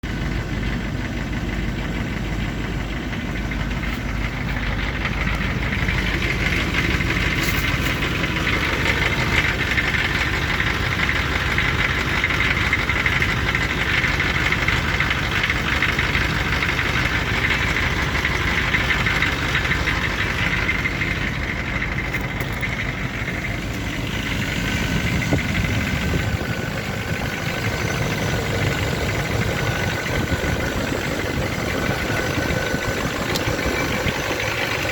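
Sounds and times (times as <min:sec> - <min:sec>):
car engine idling with knock: 0:00.0 - 0:34.9.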